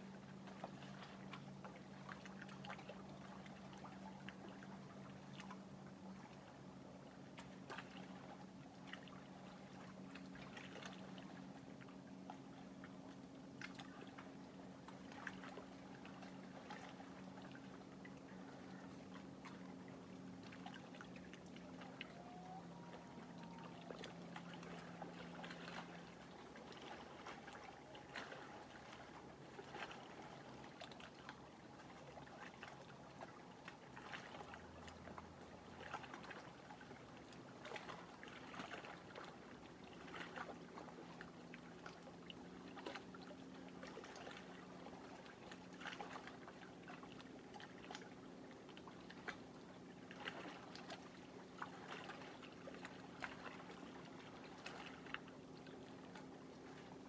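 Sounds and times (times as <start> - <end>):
lake water lapping at shore: 0.0 - 57.0
steady low hum: 0.0 - 57.0.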